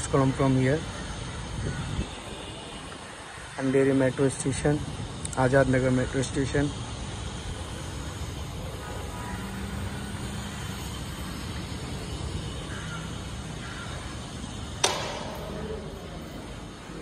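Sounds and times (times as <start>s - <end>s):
distant city traffic hum: 0.0s - 17.0s.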